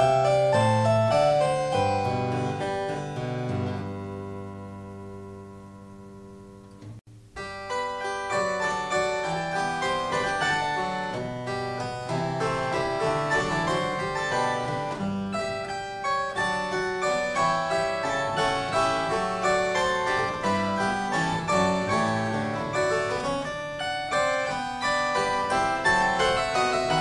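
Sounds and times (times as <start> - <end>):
instrumental music: 0.0 - 27.0.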